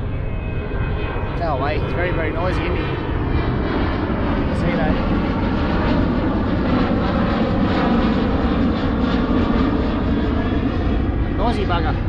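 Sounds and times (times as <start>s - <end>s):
aeroplane engine roar: 0.0s - 12.0s.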